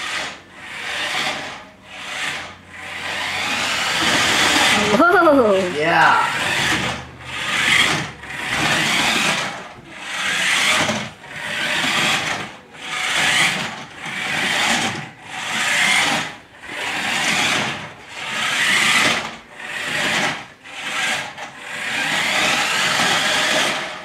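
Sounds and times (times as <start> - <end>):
toy car electric motor whirring: 0.0 - 24.0.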